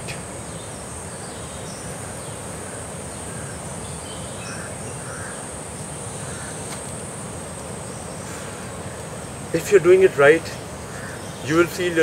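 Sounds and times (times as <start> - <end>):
low outdoor background hum: 0.0 - 12.0.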